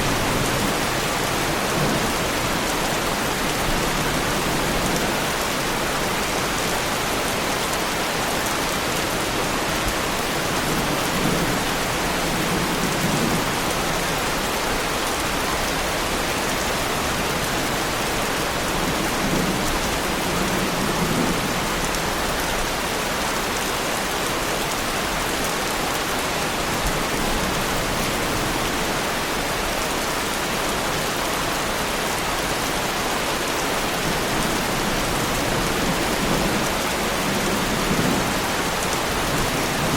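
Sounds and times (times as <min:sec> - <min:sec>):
heavy rain on a car: 0:00.0 - 0:39.9.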